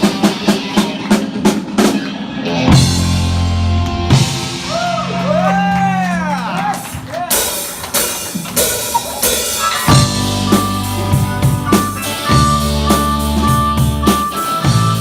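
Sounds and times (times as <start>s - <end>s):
bass and guitars riff: 0.0s - 15.0s
drum kit playing: 0.0s - 15.0s.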